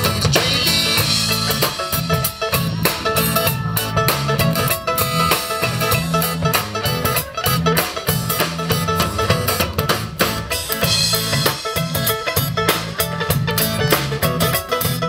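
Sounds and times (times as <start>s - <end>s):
acoustic and electric guitars: 0.0s - 15.0s
bass line: 0.0s - 15.0s
drum kit steady beat: 0.0s - 15.0s.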